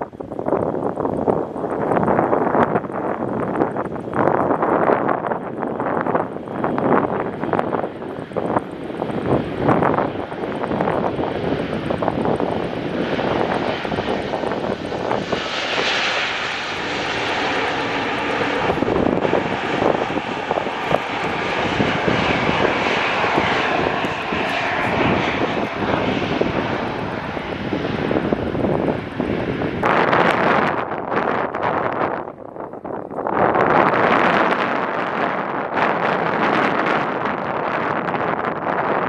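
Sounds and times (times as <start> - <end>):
jet airliner engines passing: 0.0 - 39.0.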